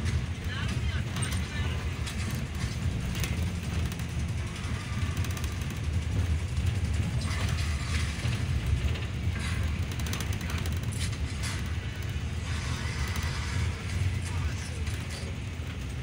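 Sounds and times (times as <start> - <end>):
bus engine drone: 0.0 - 16.0
bus fittings rattling: 0.0 - 16.0.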